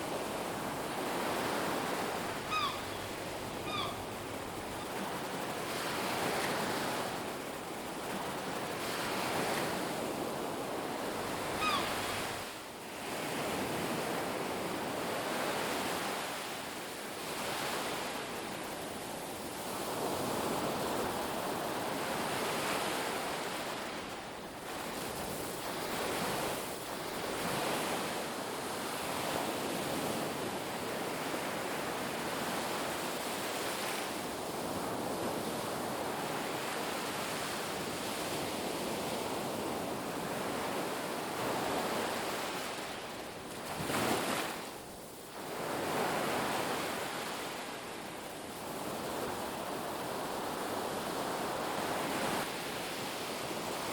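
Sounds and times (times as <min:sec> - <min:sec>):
waves breaking on a beach: 0:00.0 - 0:53.9.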